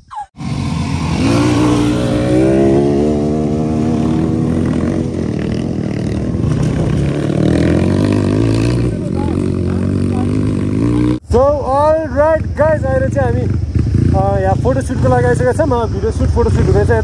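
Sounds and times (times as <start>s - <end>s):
dirt bike accelerating: 0.4s - 17.0s
dirt bike engines running: 0.4s - 17.0s.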